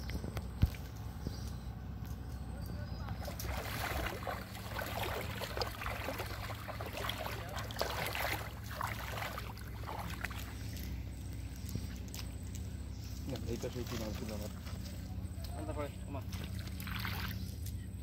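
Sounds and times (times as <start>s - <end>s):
low hum: 0.0s - 18.0s
water lapping and splashing: 3.0s - 18.0s.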